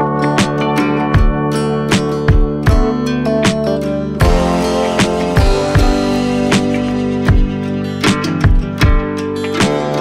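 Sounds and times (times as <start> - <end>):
plucked guitar: 0.0 - 10.0
sustained chords with beat: 0.0 - 10.0.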